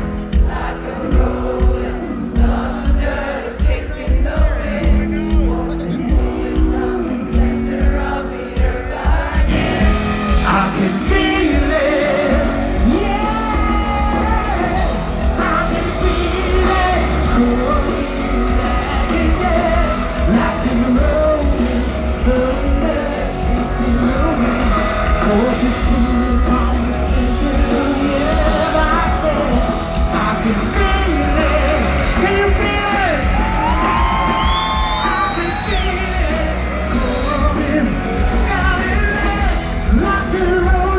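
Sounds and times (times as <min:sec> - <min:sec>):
rock band playing live: 0:00.0 - 0:40.9
person singing: 0:05.5 - 0:40.9.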